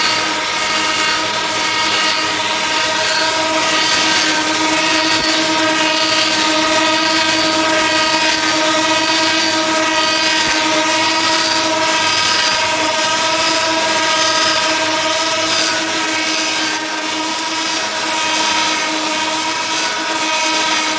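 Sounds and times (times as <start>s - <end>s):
cutters hissing on wood: 0.0s - 20.9s
lathe whine: 0.0s - 20.9s.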